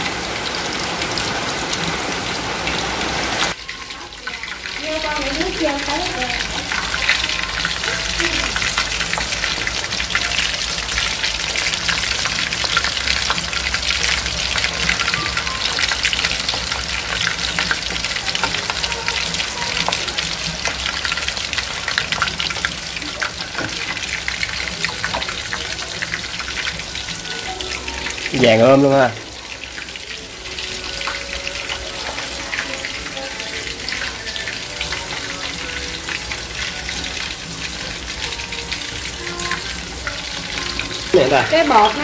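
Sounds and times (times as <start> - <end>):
shrimp deep-frying in oil: 0.0 - 42.0.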